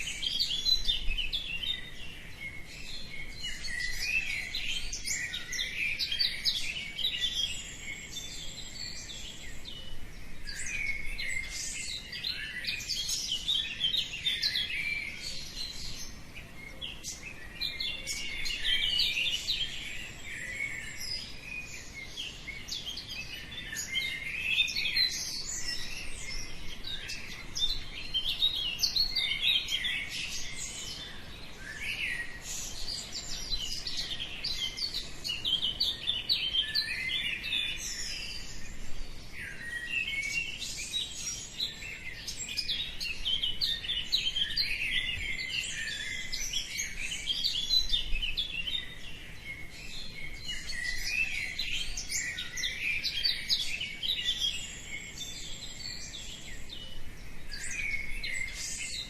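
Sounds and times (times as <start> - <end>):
birds chirping and singing: 0.0 - 59.0.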